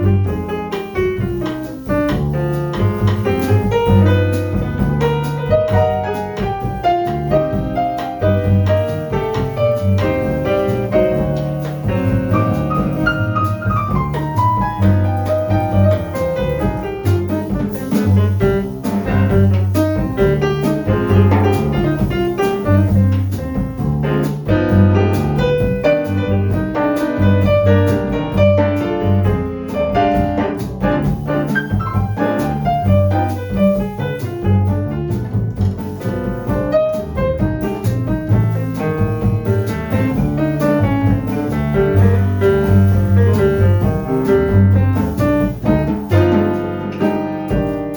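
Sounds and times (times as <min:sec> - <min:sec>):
drum kit and cymbals: 0:00.0 - 0:47.9
piano chords and melody: 0:00.0 - 0:47.9
plucked upright bass: 0:00.0 - 0:47.9.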